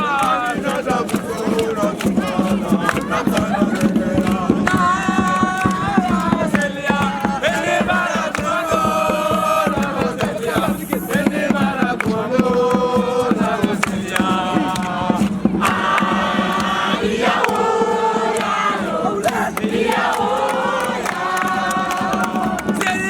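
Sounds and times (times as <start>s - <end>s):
fast percussive beats: 0.0s - 23.0s
young voices singing a chant: 0.0s - 23.0s.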